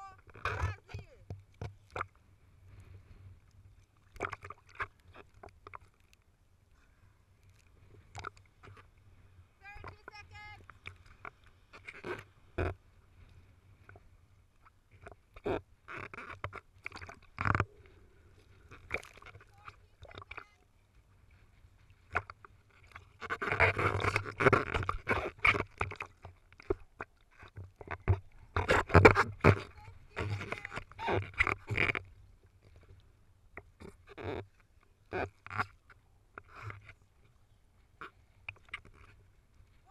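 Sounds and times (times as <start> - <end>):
sea water splashing against camera: 0.0 - 6.2, 7.6 - 39.9.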